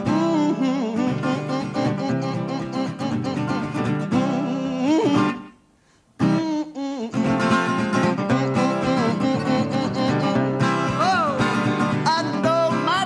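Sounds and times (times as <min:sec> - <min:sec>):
acoustic guitar blues: 0:00.0 - 0:05.6, 0:06.2 - 0:13.0.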